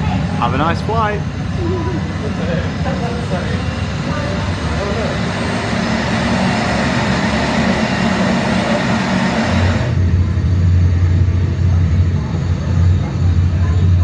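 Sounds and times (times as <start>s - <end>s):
jet engine sound effect: 0.0s - 14.0s
steady low hum: 0.0s - 14.0s.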